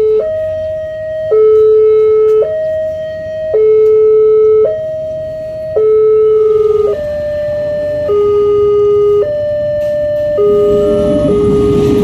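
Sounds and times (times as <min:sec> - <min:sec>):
level crossing two-tone alarm: 0:00.0 - 0:12.0.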